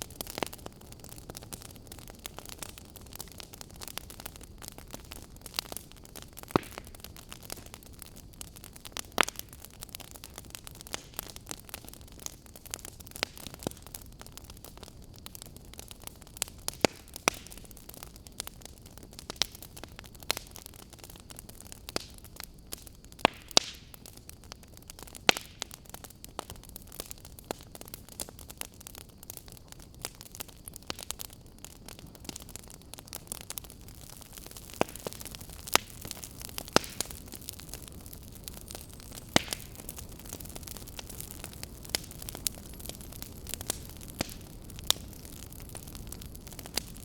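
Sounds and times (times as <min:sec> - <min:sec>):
low fire hiss: 0:00.0 - 0:47.0
wood fire popping and snapping: 0:00.0 - 0:47.0.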